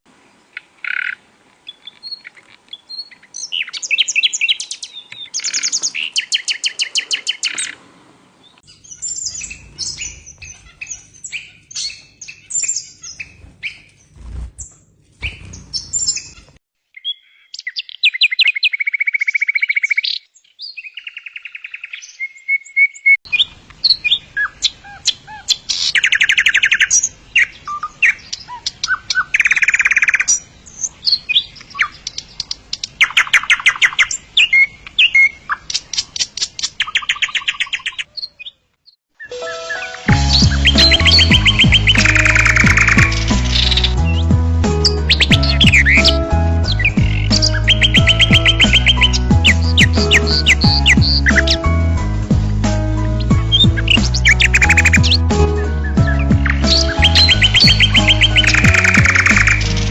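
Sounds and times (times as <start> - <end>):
songbirds singing: 0.3 - 59.9.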